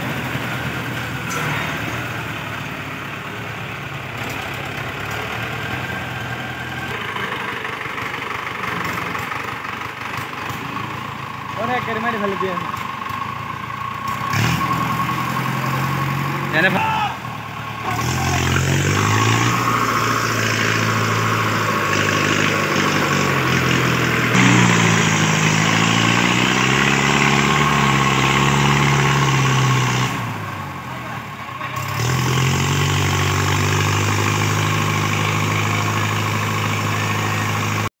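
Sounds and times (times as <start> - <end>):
tractor diesel engine under load: 0.0 - 37.9.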